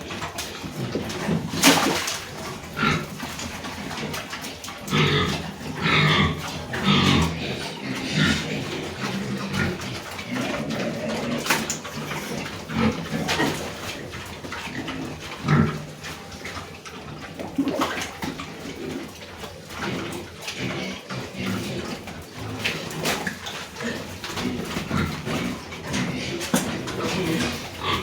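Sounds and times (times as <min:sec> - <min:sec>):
pigs grunting and eating: 0:00.0 - 0:28.0.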